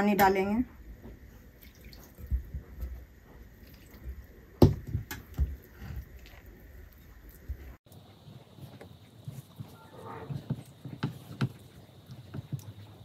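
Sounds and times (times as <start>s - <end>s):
hands squelching wet dough: 1.1s - 13.0s.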